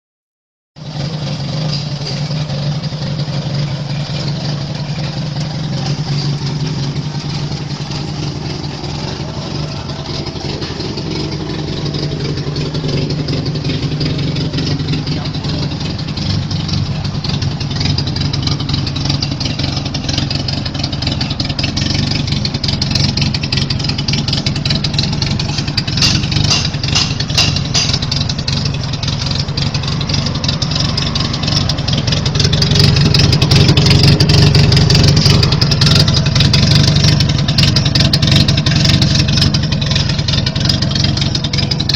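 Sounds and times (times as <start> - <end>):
car engine idling: 0.8 - 41.9.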